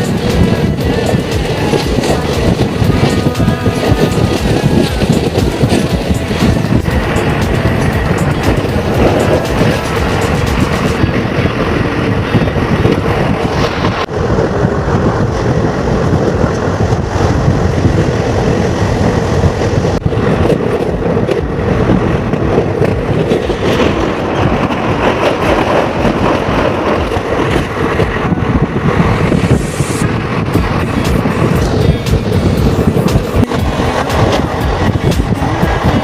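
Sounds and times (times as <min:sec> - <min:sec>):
moving passenger train: 0:00.0 - 0:36.0.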